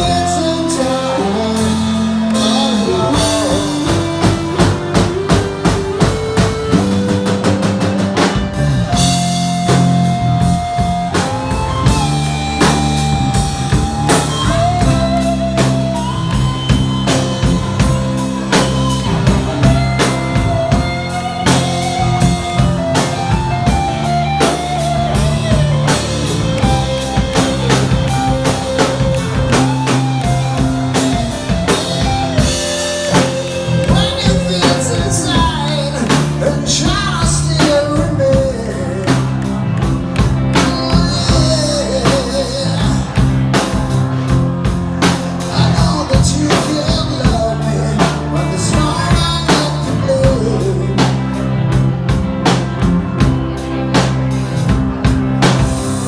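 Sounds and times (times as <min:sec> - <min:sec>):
person singing: 0:00.0 - 0:44.4, 0:45.0 - 0:51.8
drum kit beat: 0:00.0 - 0:56.0
guitar: 0:00.0 - 0:56.0.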